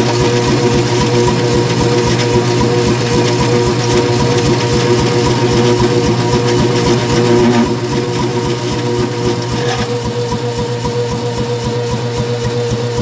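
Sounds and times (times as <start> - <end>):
power hammer motor humming: 0.0 - 12.9.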